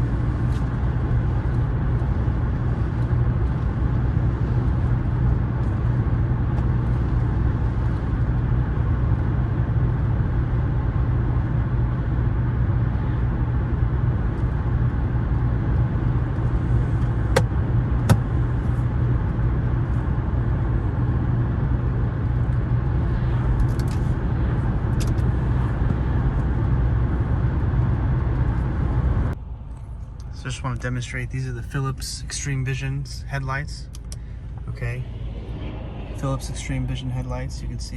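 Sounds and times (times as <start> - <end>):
car engine and tyres droning: 0.0 - 37.9.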